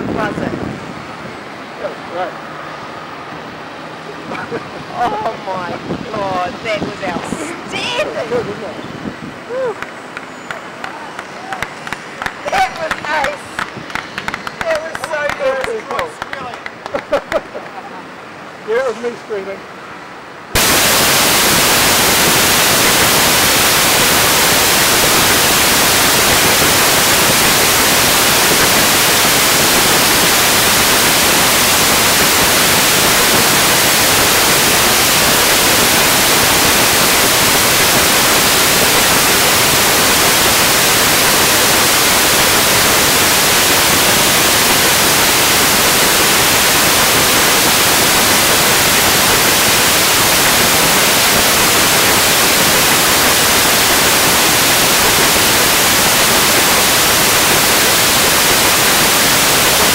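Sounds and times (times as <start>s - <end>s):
videotape static hiss: 0.0s - 9.2s, 20.4s - 59.9s.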